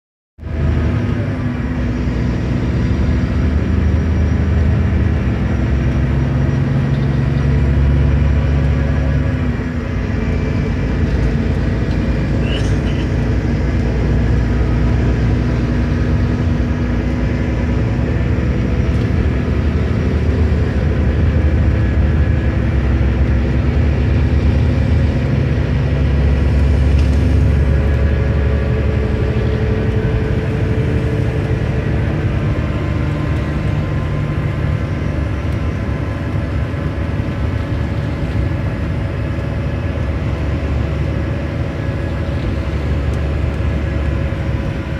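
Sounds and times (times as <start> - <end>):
bus diesel engine drone: 0.4 - 44.9.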